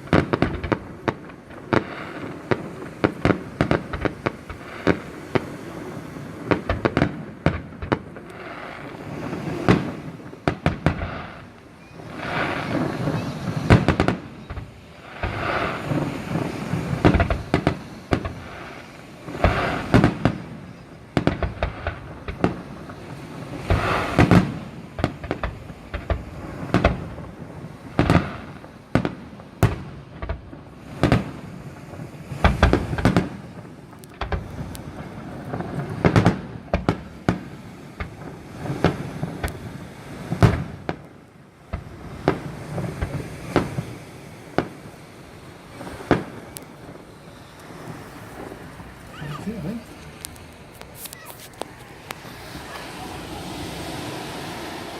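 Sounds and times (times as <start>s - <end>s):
fireworks crackling: 0.0s - 54.9s.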